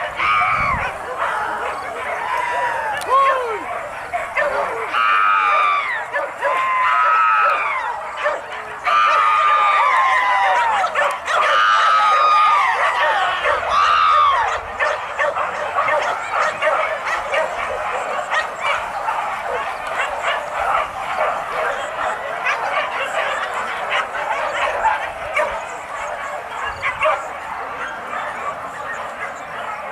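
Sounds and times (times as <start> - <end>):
dogs yelping and baying: 0.0 - 29.9.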